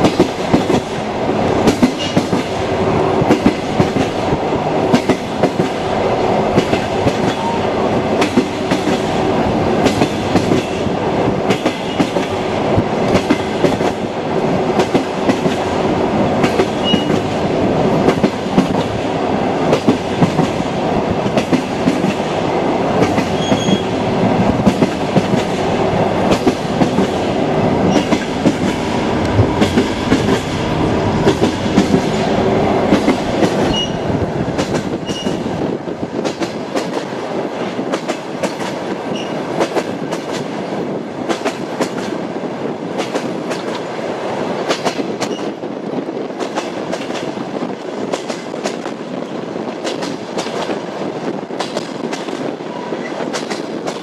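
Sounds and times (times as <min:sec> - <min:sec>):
train wheels clicking over rail joints: 0:00.0 - 0:44.0, 0:44.6 - 0:54.0
train rolling rumble: 0:00.0 - 0:54.0.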